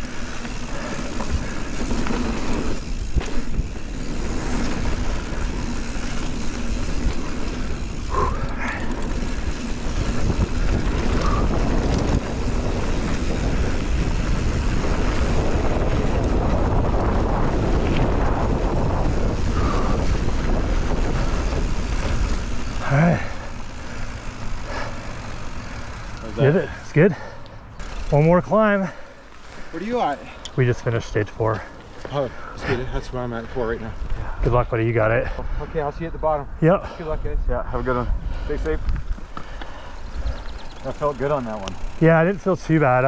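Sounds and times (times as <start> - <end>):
wind buffeting microphone: 0.0 - 27.0, 29.6 - 43.0
bike rattling over rough ground: 0.0 - 36.4, 37.8 - 43.0
bike tyre noise: 0.0 - 43.0.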